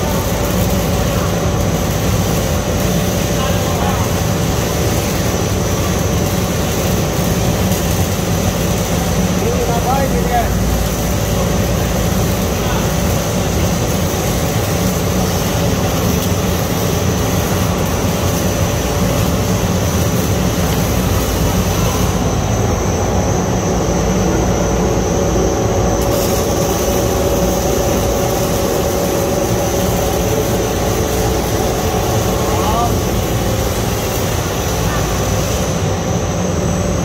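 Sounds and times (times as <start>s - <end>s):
constant low hum: 0.0s - 37.0s
loud steady machine drone: 0.0s - 37.0s.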